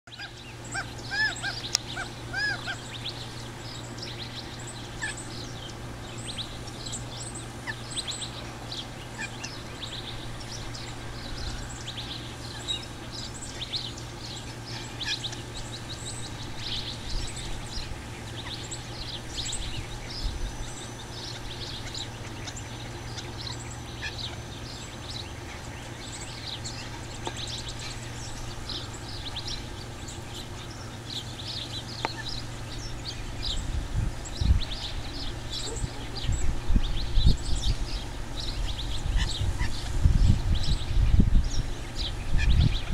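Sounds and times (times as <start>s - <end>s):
birds chirping: 0.1s - 42.9s.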